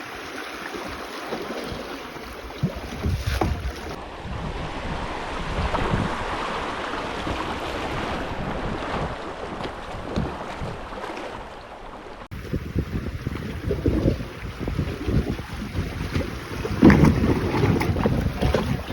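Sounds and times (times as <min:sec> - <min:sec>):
river water flowing: 0:00.0 - 0:18.9
wind buffeting microphone: 0:01.6 - 0:18.9.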